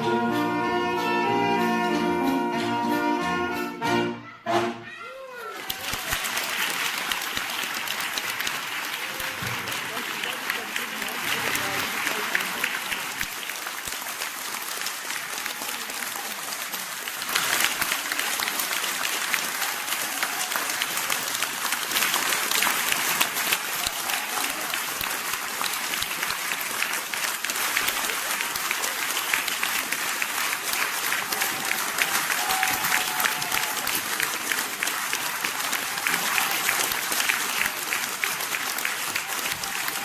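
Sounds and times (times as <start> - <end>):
audience applauding: 5.2 - 40.0.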